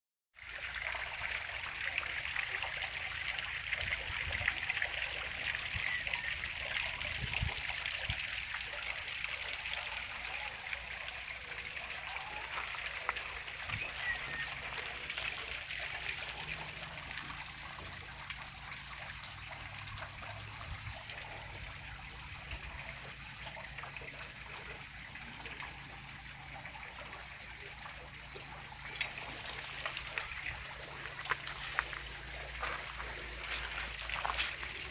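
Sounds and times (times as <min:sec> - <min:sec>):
spring water trickling: 0:00.4 - 0:34.9.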